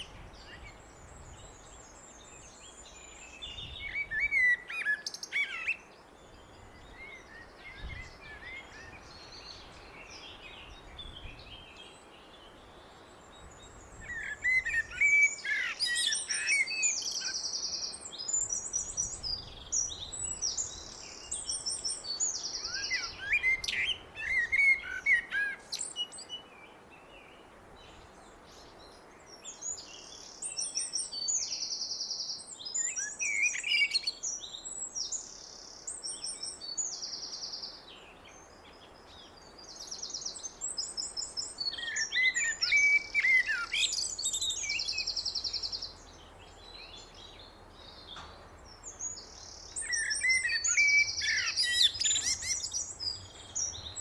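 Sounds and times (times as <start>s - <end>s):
blackbird singing: 0.0s - 12.6s, 13.3s - 27.4s, 28.6s - 54.0s.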